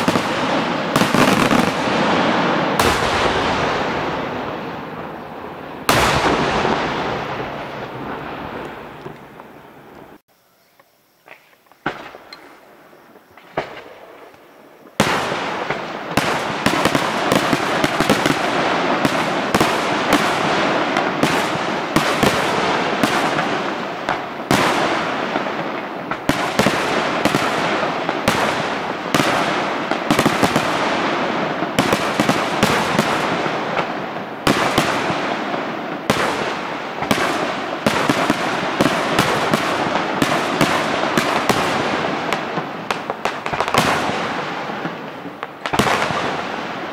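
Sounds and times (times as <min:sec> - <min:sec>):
firework bangs: 0:00.0 - 0:10.2, 0:11.8 - 0:46.9
firework shell bursts and crackling: 0:00.0 - 0:10.2, 0:15.0 - 0:46.9.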